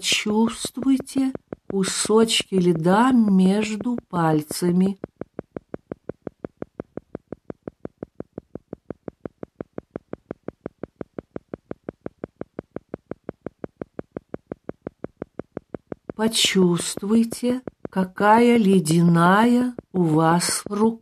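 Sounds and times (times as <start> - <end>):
short even pulse beats: 0.1 - 20.6.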